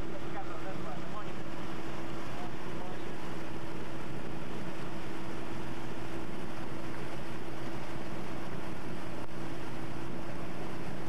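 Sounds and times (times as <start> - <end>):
motorboat engine running: 0.0 - 11.0
wind and water hiss: 0.0 - 11.0.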